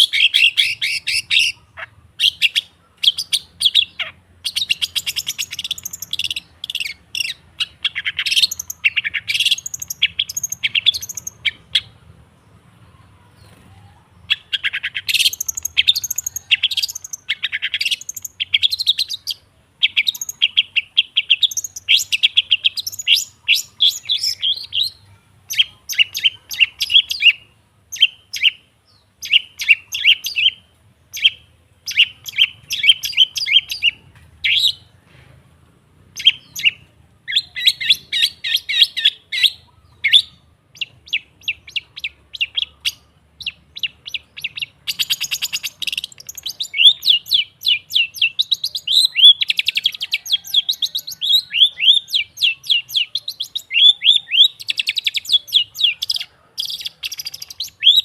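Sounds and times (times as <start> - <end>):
bird singing sharp chattering notes: 0.0 - 34.9, 36.1 - 58.0.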